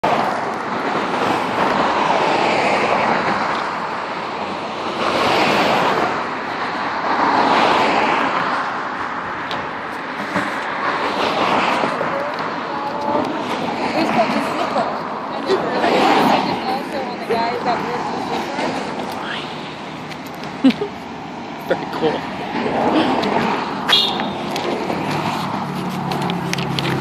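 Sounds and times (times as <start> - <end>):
cars driving past: 0.0 - 27.0.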